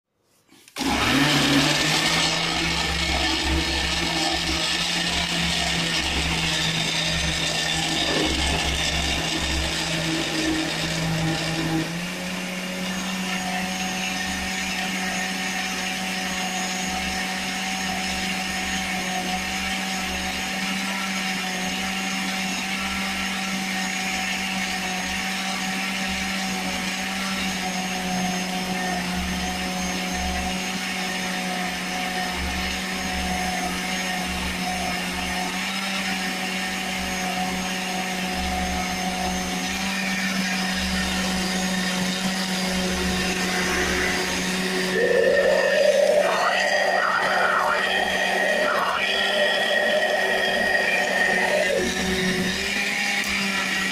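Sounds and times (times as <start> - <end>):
blender motor running: 0.6 - 53.9.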